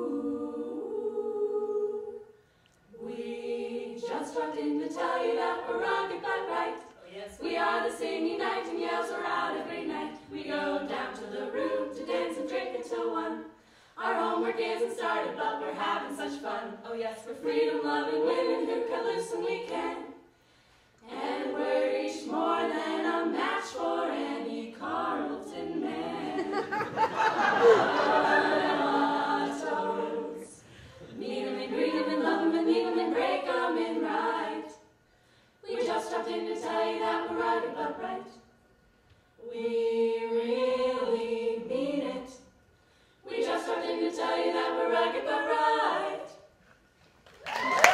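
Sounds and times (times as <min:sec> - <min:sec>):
women singing a cappella: 0:00.0 - 0:46.6.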